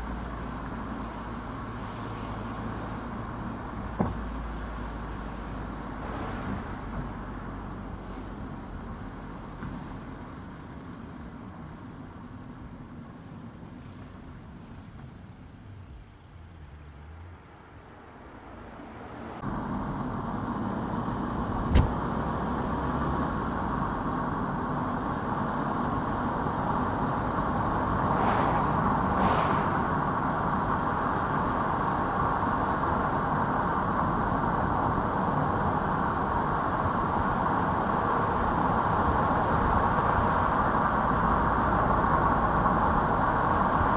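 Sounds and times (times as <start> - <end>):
tyre and road noise: 0.0 - 43.9.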